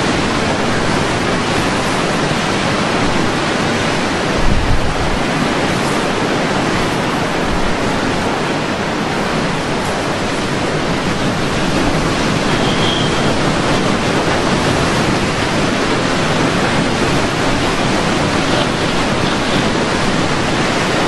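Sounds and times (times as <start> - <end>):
hurricane wind: 0.0 - 21.0
rain: 0.0 - 21.0.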